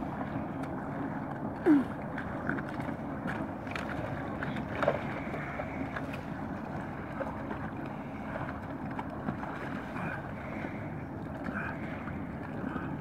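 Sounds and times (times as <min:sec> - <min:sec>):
water sloshing: 0:00.0 - 0:13.0.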